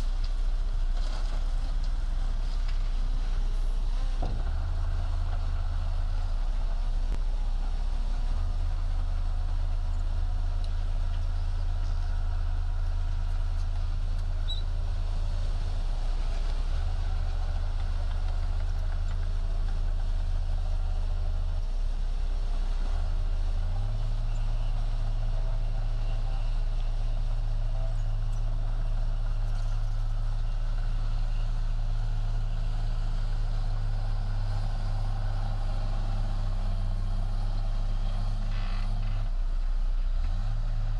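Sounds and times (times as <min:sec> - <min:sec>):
heavy diesel engine droning: 0:00.0 - 0:40.9.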